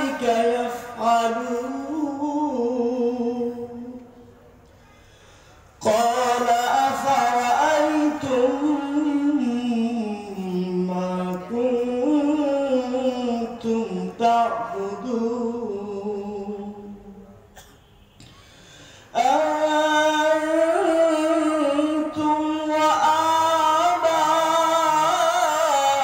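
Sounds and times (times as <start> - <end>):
man reciting melodically: 0.0 - 4.3, 5.6 - 17.5, 19.0 - 26.0.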